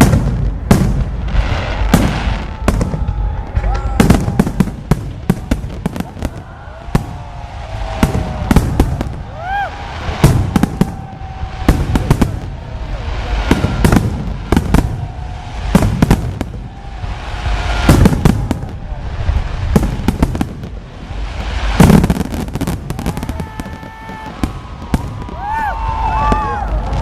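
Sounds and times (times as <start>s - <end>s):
fireworks bangs and crackles: 0.0s - 27.0s
fireworks whistling: 0.0s - 27.0s.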